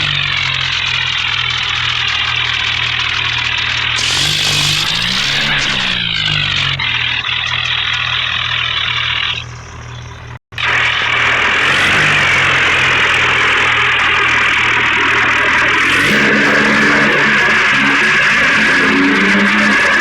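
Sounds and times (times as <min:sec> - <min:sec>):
bulldozer engine running: 0:00.0 - 0:20.0.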